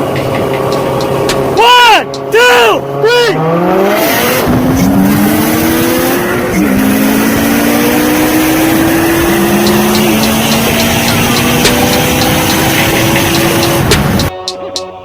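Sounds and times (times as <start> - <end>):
car engine accelerating: 0.0 - 14.3
road and tyre noise: 0.0 - 15.0.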